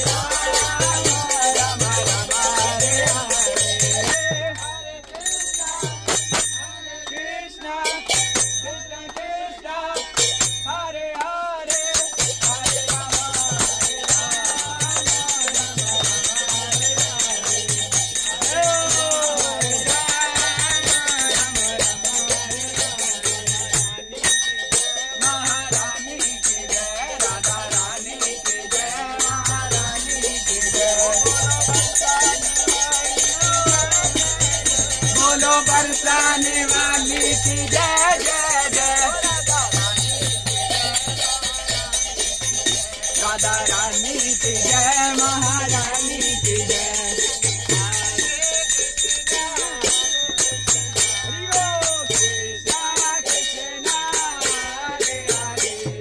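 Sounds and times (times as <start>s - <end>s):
jingling rattling percussion: 0.0s - 56.0s
voices singing a chant: 0.0s - 56.0s.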